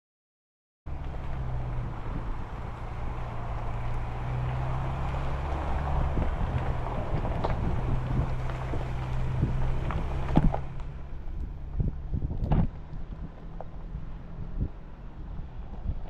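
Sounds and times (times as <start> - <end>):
wind noise on microphone: 1.5 - 16.0.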